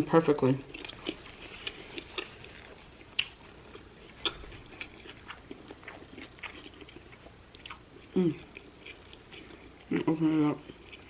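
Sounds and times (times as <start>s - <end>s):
chewing and mouth sounds: 0.6s - 11.0s.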